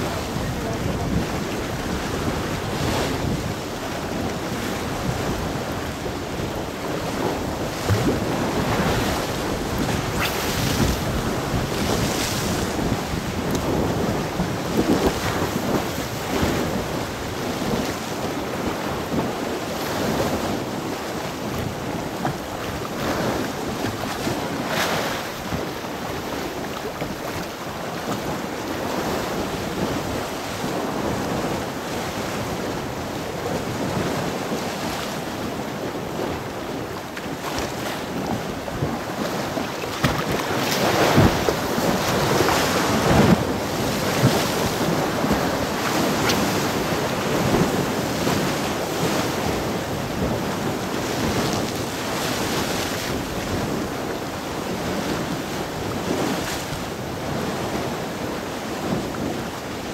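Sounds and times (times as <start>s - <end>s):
sea waves washing onto shore: 0.0s - 59.9s
wind buffeting microphone: 0.0s - 59.9s.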